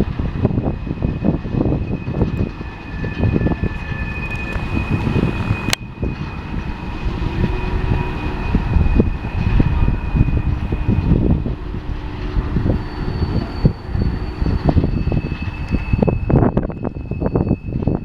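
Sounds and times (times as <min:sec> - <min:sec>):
freight train rumbling past: 0:00.0 - 0:18.0
high-pitched squeal: 0:00.0 - 0:18.0.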